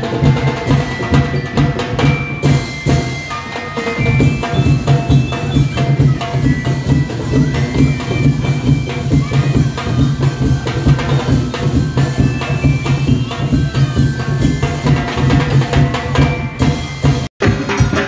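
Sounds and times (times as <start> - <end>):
drums beating fast rhythm: 0.0 - 18.0.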